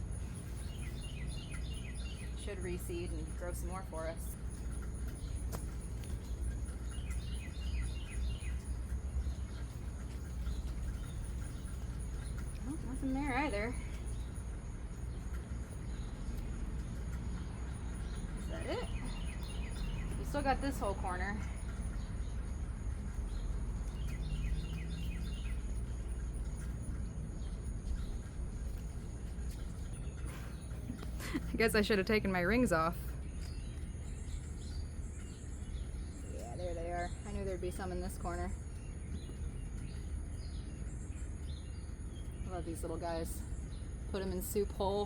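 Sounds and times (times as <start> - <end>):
bird chirping: 0.0 - 45.0
low outdoor rumble: 0.0 - 45.0
songbird singing: 0.0 - 45.0.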